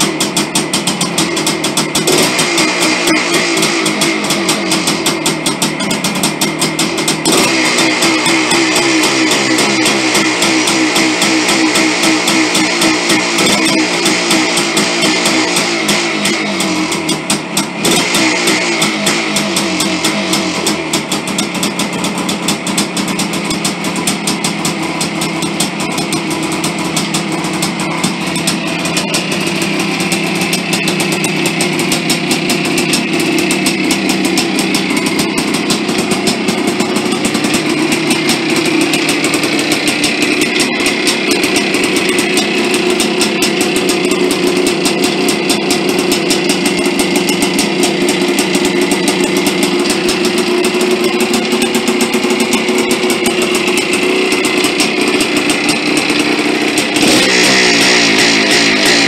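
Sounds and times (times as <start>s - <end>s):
two-stroke engine revving: 0.0s - 59.0s.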